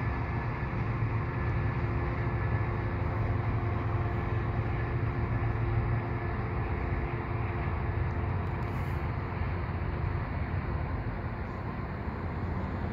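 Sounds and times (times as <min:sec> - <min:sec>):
diesel train rumbling: 0:00.0 - 0:12.9.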